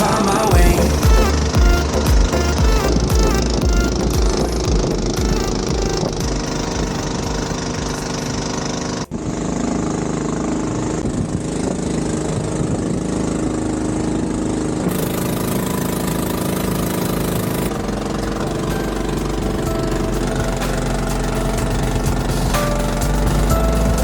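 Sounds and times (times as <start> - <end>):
boat engine running steadily: 0.5 - 24.0.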